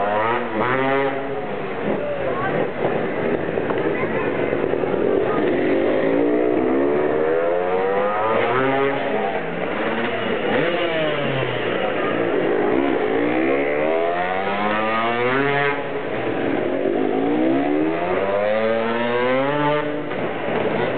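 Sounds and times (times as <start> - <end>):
dirt bike engines revving: 0.0 - 20.9.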